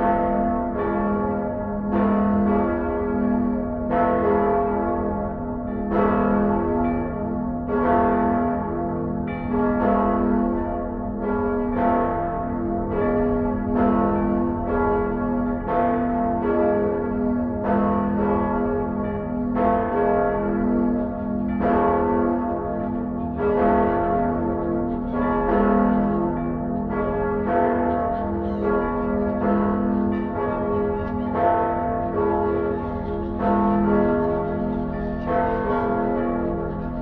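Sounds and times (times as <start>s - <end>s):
church bells pealing: 0.0s - 37.0s.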